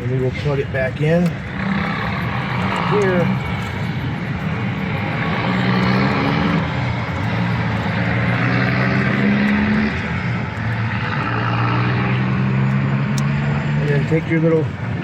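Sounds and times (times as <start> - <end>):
motor droning hum: 0.7 - 14.4.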